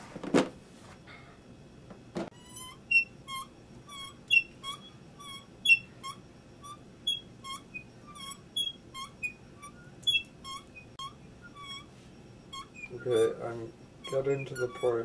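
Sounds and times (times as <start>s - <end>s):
hand drill squeaking: 2.4s - 11.9s, 12.5s - 15.0s.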